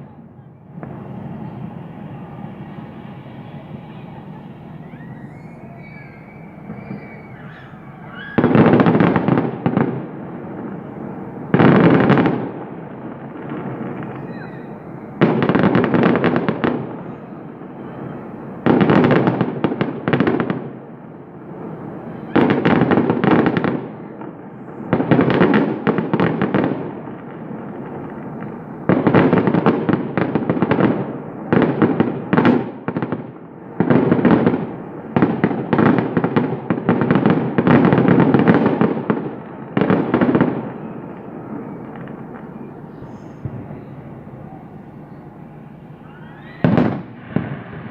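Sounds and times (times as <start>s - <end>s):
fireworks crackling pops: 0.7s - 47.9s.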